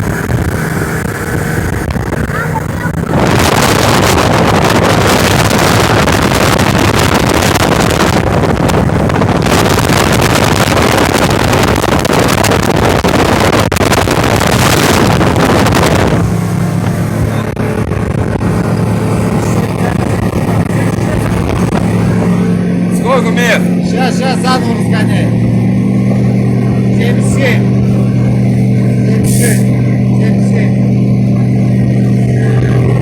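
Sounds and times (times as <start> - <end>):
motorboat engine drone: 0.0 - 33.0
wind rushing over microphone: 0.0 - 33.0.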